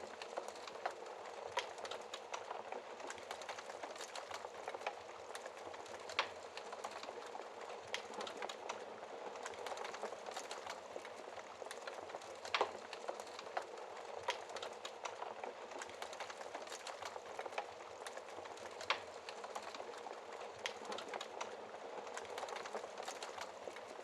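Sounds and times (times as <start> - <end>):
fireplace logs crackling: 0.0 - 24.0.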